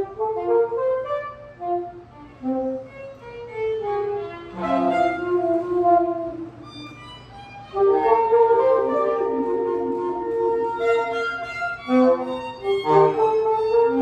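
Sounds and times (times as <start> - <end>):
other instruments: 0.0 - 14.0
violin playing free jazz: 0.0 - 14.0.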